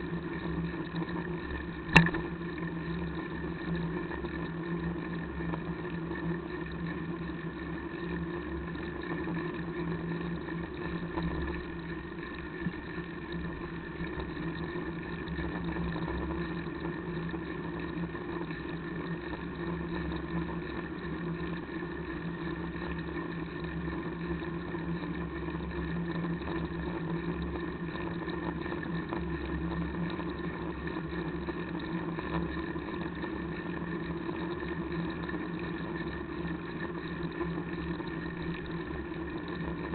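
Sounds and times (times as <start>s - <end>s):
constant hum: 0.0s - 39.9s.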